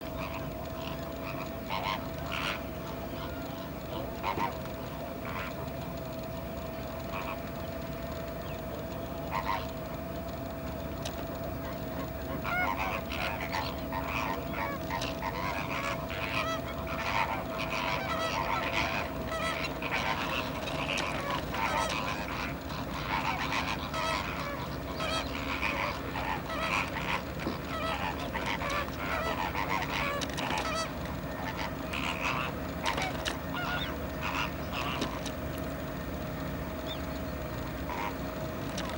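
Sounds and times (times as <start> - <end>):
flock of flamingos honking: 0.0 - 38.9.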